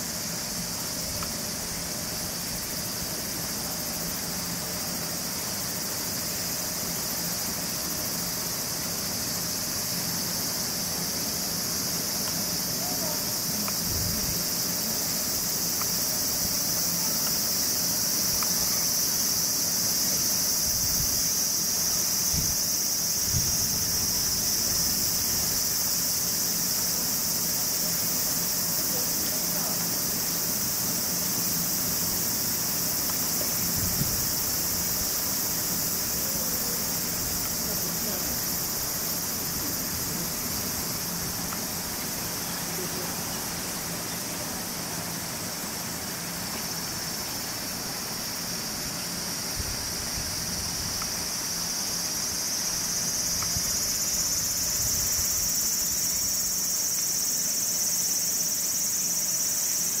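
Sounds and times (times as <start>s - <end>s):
lower-pitched insect layer: 0.0s - 60.0s
shrill insect chorus: 0.0s - 60.0s.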